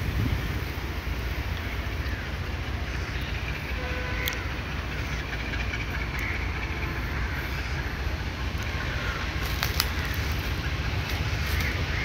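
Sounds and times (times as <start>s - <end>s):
locomotive rumbling: 0.0s - 12.0s.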